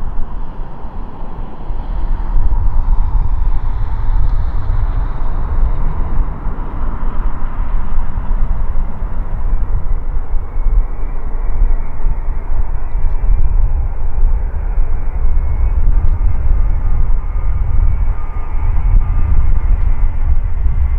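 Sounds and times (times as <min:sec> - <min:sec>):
jet engines low rumble: 0:00.0 - 0:20.9.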